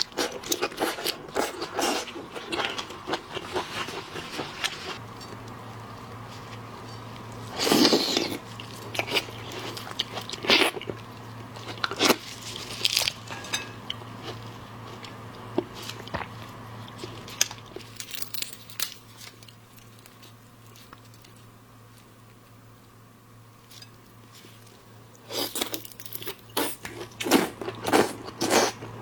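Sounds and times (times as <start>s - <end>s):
crunching seafood while eating: 0.0s - 22.9s, 23.6s - 29.0s
low steady hum: 0.0s - 29.0s.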